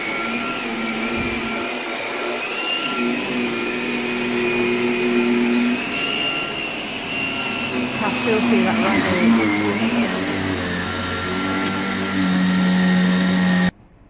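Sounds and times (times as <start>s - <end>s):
vacuum cleaner motor whine: 0.0s - 13.8s.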